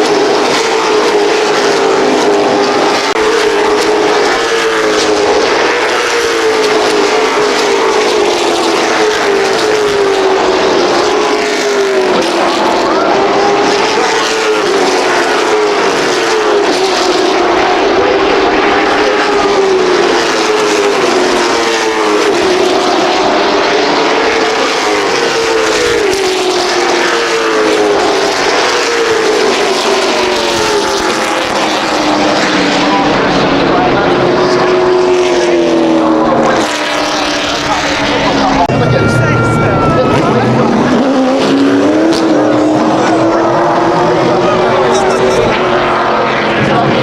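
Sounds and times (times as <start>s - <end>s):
race car engines at full throttle: 0.0s - 47.0s.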